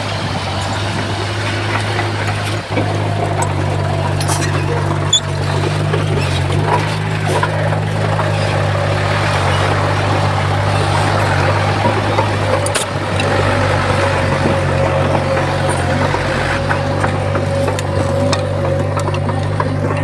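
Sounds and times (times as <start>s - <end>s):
diesel machine drone: 0.0s - 20.0s.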